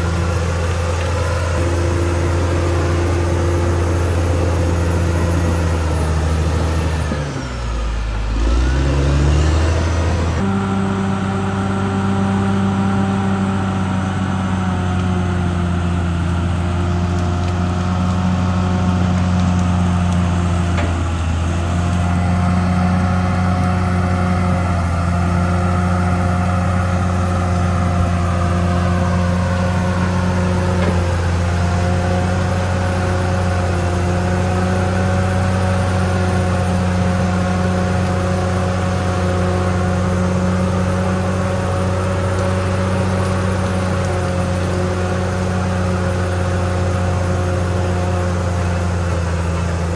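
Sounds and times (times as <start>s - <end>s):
bulldozer diesel engine running: 0.0s - 49.9s
faint engine whine: 0.0s - 49.9s.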